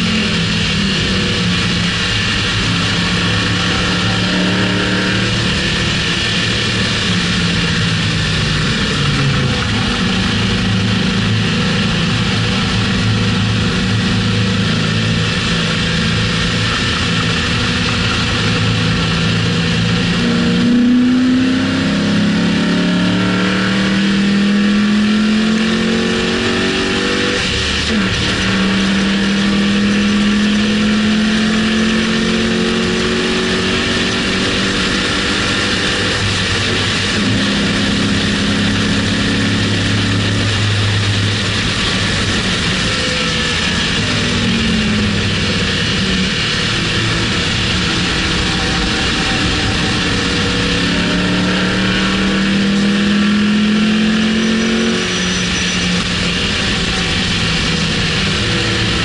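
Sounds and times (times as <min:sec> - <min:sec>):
car engine revving: 0:00.0 - 0:59.0
wind and road rush: 0:00.0 - 0:59.0.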